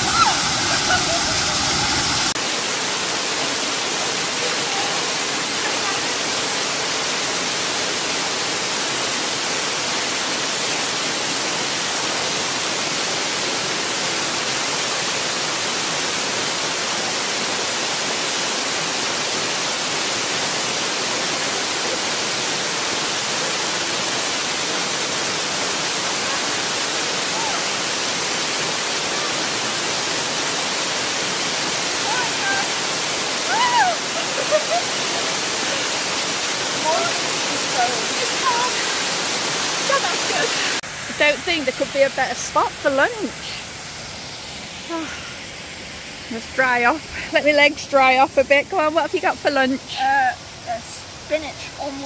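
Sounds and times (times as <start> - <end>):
waterfall pouring: 0.0 - 52.0.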